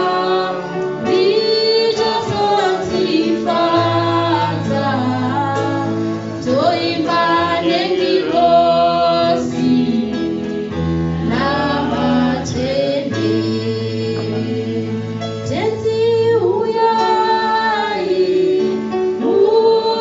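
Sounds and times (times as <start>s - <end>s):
woman singing gospel: 0.0s - 10.6s, 11.3s - 20.0s
sustained backing chords: 0.0s - 20.0s.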